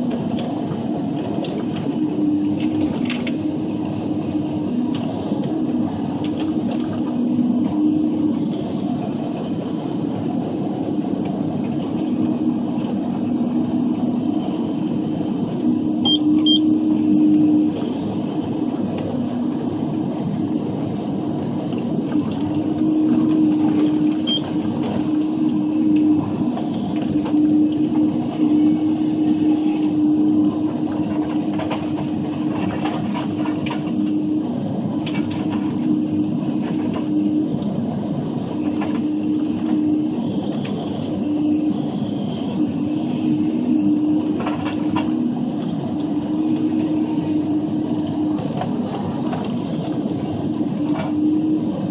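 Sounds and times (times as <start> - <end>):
diesel engine and hydraulics droning: 0.0 - 51.9.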